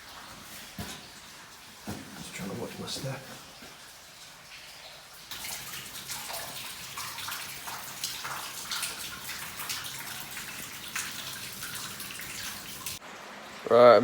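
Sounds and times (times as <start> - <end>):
water dripping in a cave: 0.0 - 14.0.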